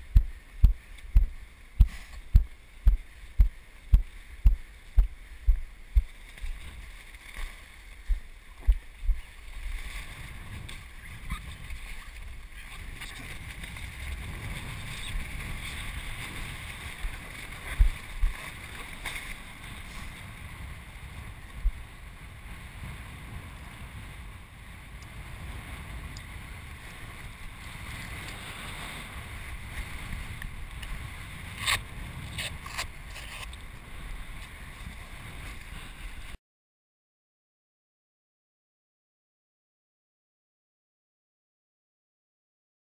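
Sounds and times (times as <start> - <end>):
wind buffeting microphone: 0.0 - 7.0, 8.0 - 36.4.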